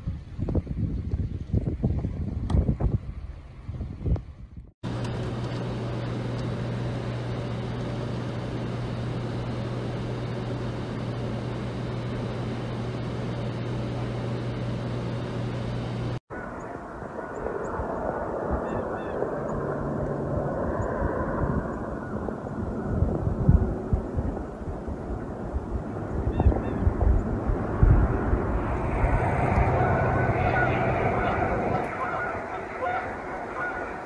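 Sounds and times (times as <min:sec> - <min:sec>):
blizzard wind on microphone: 0:00.0 - 0:34.0
low hum: 0:02.9 - 0:34.0.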